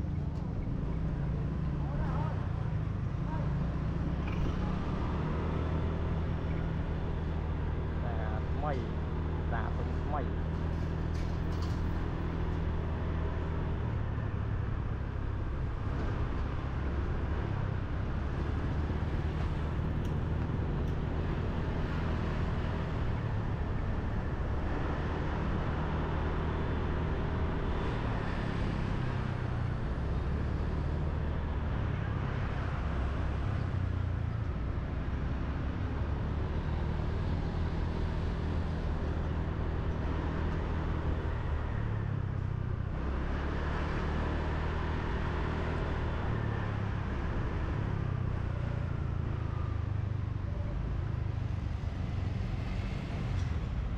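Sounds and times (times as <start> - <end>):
road and traffic noise: 0.0 - 53.9.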